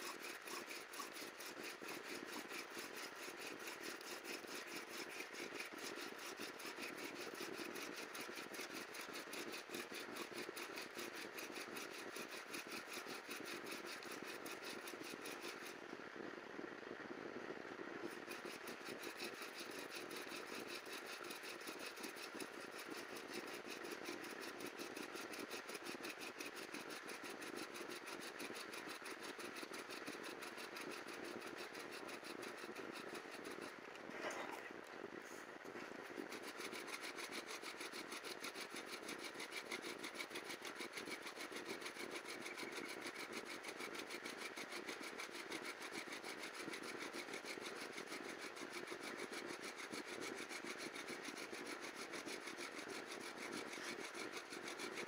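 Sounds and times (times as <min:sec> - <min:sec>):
bow drill spindle grinding wood: 0:00.0 - 0:15.9, 0:18.0 - 0:34.5, 0:35.2 - 0:55.0.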